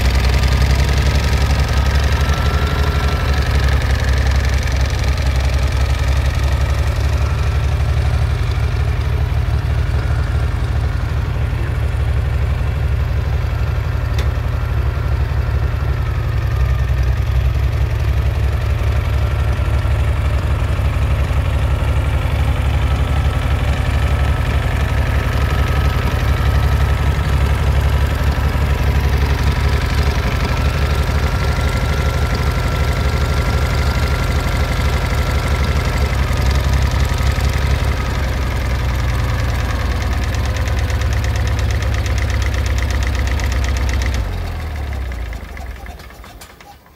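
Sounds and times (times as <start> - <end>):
tractor engine rumbling: 0.0 - 46.9.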